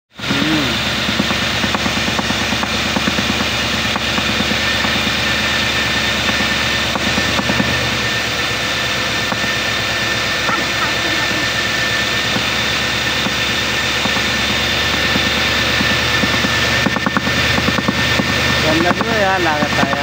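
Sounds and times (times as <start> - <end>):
engine idling: 0.0 - 20.0
high whine: 0.1 - 20.0.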